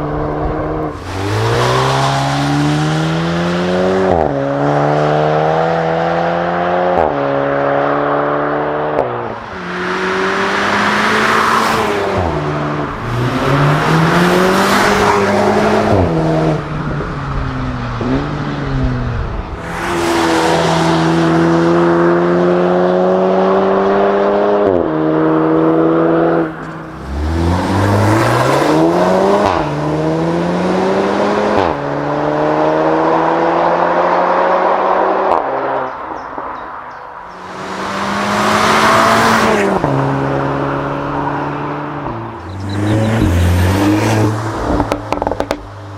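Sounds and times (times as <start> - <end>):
car engine accelerating hard: 0.0 - 36.0, 37.3 - 45.9.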